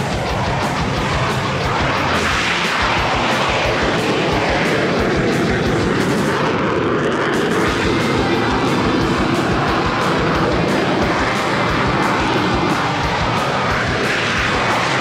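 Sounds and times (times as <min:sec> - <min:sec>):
jet engine crackling rumble: 0:00.0 - 0:15.0.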